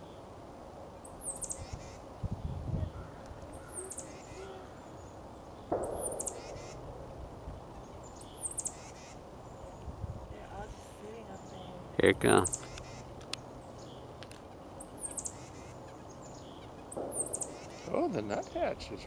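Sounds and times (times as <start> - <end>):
high thin bird calls: 1.1 - 9.9, 11.3 - 18.6.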